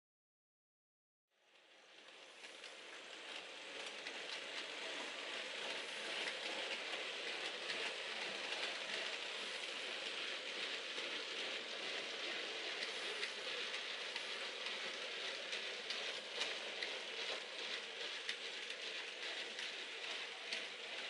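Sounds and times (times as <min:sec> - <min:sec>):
model train wheels on track: 0:01.4 - 0:21.0
light track clicks: 0:01.9 - 0:21.0.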